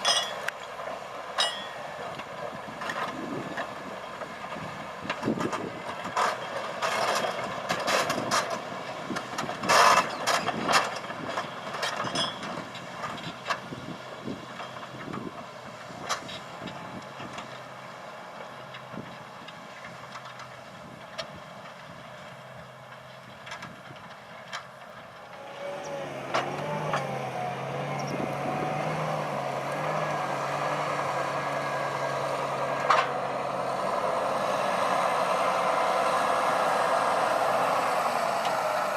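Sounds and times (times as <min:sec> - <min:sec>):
tractor diesel engine: 0:00.0 - 0:38.9.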